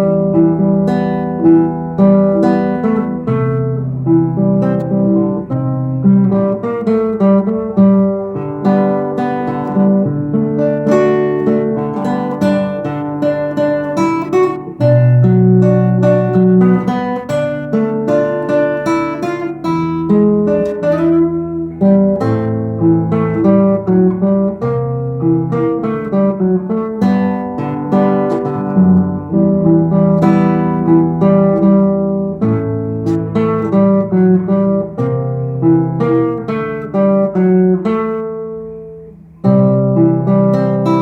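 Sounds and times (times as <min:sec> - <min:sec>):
acoustic guitar strumming and picking: 0:00.0 - 0:41.0.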